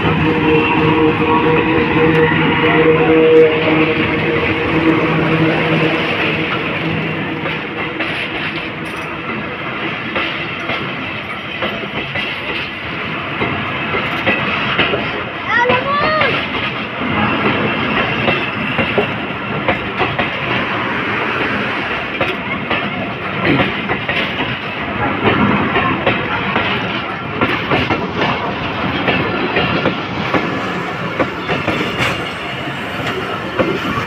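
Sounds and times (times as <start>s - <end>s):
train wheels clattering over rail joints: 0.0s - 34.0s.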